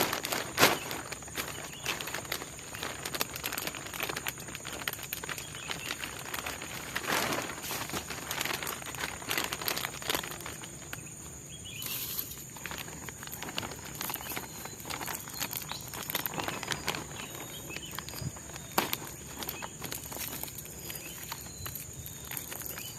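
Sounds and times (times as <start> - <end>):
rustling and crackling: 0.0 - 22.9.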